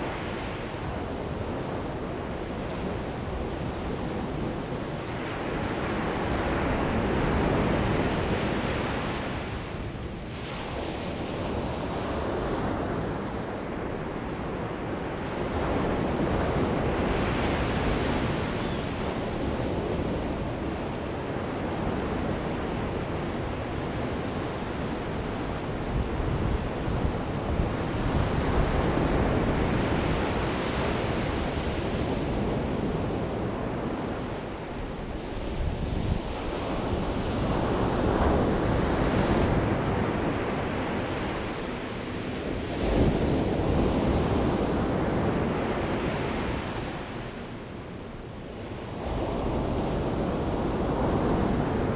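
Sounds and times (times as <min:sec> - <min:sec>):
waves breaking on beach: 0:00.0 - 0:51.9.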